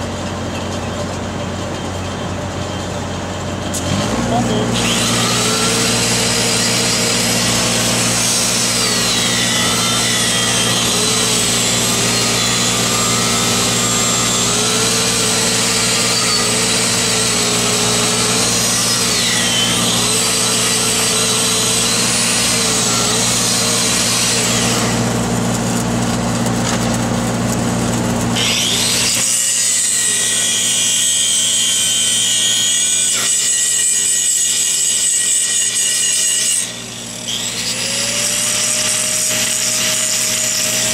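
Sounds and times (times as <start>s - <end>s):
grinder grinding metal: 3.5s - 40.9s.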